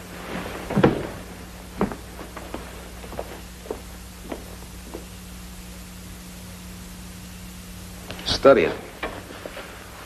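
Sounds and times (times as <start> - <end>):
film soundtrack hum and hiss: 0.0 - 10.0.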